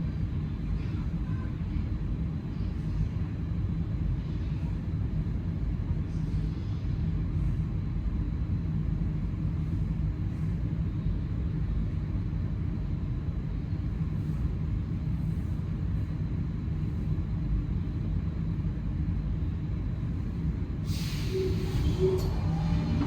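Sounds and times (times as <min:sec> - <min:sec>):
metro train rumble from inside: 0:00.0 - 0:23.0.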